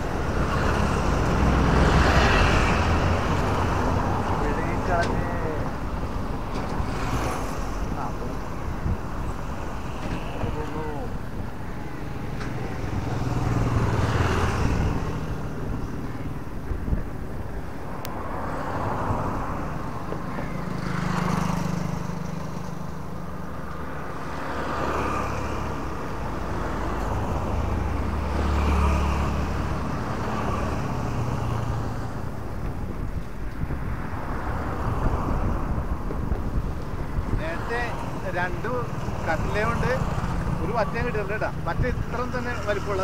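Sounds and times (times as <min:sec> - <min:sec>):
cars and motorcycles passing: 0:00.0 - 0:43.0.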